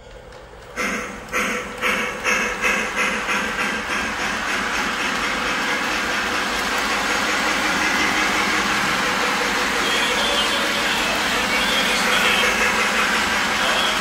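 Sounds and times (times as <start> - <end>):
steam locomotive chuffing: 0.0 - 14.0
toy train rumbling on track: 0.0 - 14.0.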